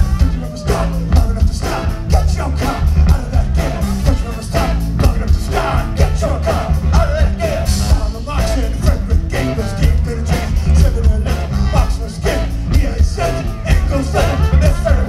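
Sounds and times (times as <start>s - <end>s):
lead singer singing: 0.0s - 15.0s
live rock band playing: 0.0s - 15.0s.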